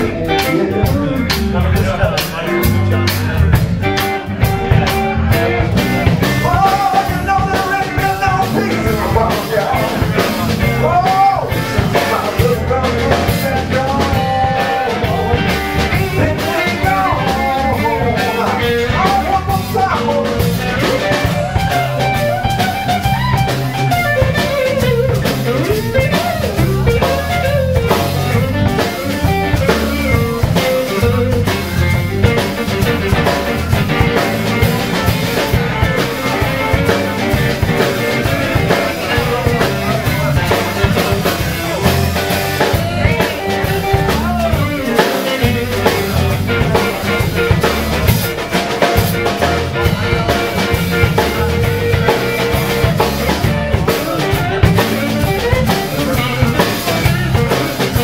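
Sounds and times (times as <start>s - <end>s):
bent lead guitar notes: 0.0s - 58.0s
live blues band playing: 0.0s - 58.0s.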